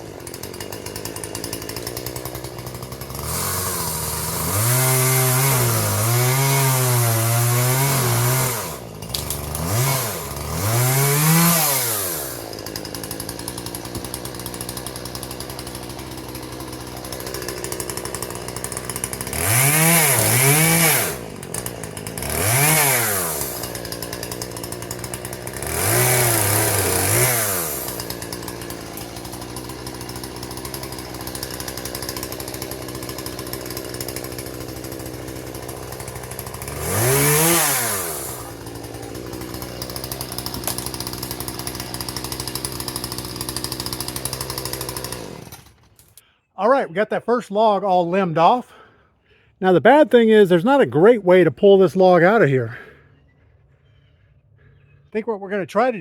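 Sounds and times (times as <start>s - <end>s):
chainsaw cutting wood: 0.0s - 46.3s, 47.2s - 53.1s.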